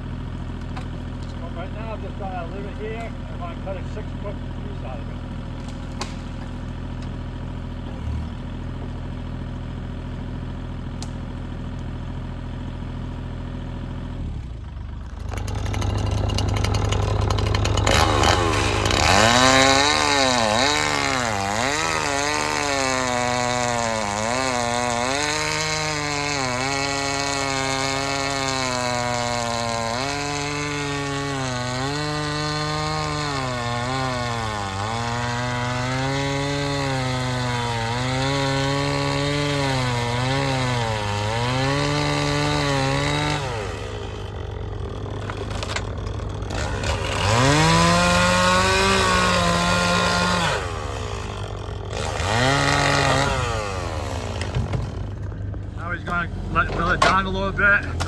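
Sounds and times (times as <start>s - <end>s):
excavator engine idling: 0.0s - 49.9s, 50.7s - 58.0s
chainsaw cutting log: 0.0s - 58.0s.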